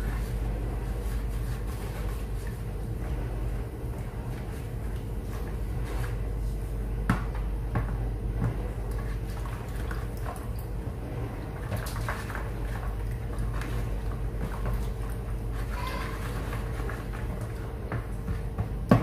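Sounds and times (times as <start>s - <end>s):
liquid swishing: 0.0s - 6.9s, 8.7s - 17.9s
steady low hum: 0.0s - 19.0s.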